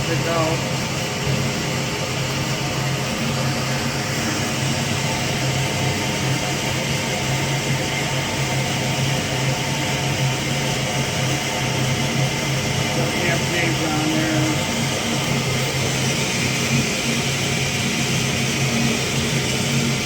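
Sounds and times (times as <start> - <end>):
surface grinder running: 0.0 - 20.0.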